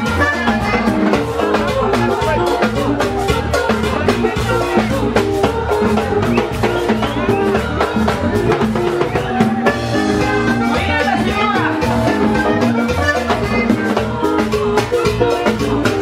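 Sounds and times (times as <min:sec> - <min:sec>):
button accordion melody: 0:00.0 - 0:16.0
drum kit: 0:00.0 - 0:16.0
hand percussion: 0:00.0 - 0:16.0.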